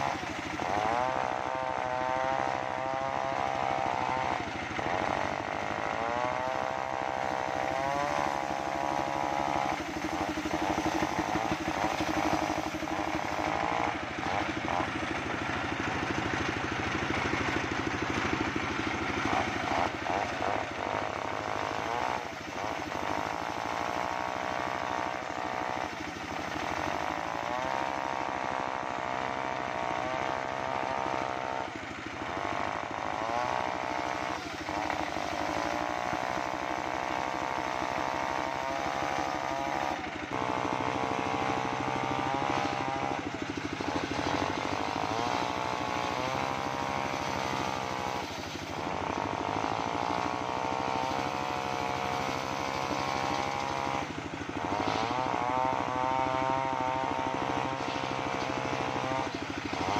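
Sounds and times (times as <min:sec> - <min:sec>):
circular saw engine running: 0:00.0 - 0:59.9
saw blade cutting wood: 0:00.0 - 0:59.9.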